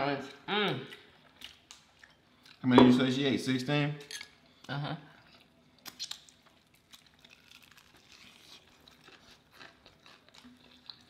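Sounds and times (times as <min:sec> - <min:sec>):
crunching and chewing: 0:00.2 - 0:02.7, 0:04.1 - 0:11.0.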